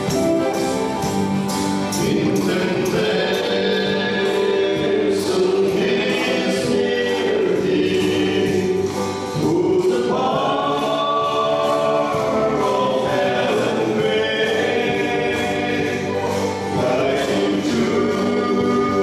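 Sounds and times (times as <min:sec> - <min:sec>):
male vocal quartet singing: 0:01.8 - 0:19.0.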